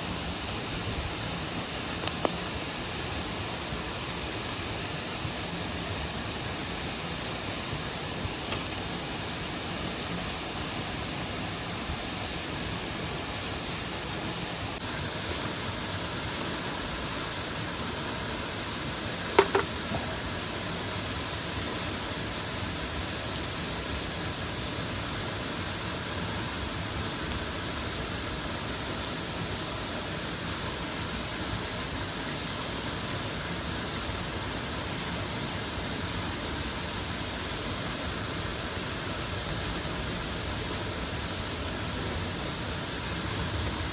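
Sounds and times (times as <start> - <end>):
waterfall and stream rushing: 0.0 - 43.9.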